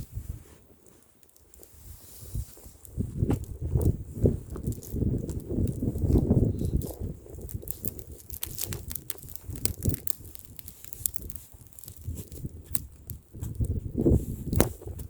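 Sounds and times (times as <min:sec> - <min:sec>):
wind rumble on microphone: 0:00.0 - 0:00.7, 0:01.6 - 0:15.0
bonfire crackling and popping: 0:00.0 - 0:15.0.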